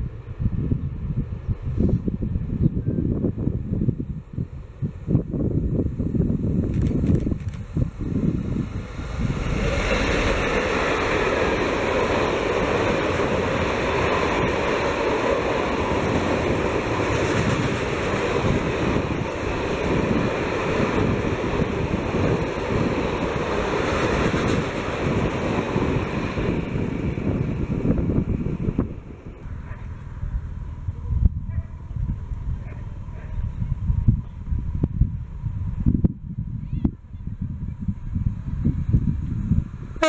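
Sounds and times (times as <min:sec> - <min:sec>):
diesel locomotive passing: 0:00.0 - 0:06.6, 0:07.6 - 0:40.0
train wheels rumbling on rail: 0:00.0 - 0:40.0
wind buffeting microphone: 0:00.0 - 0:40.0.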